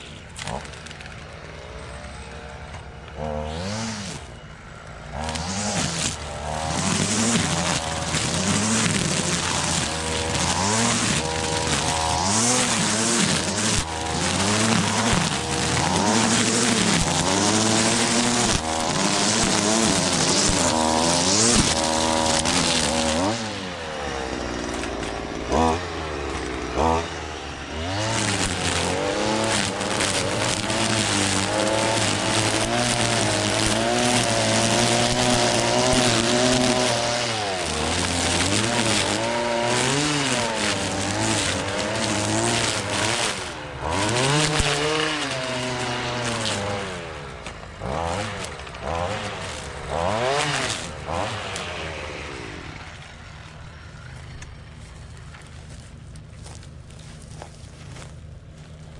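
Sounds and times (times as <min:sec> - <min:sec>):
string trimmer engine running: 0:00.0 - 0:58.9.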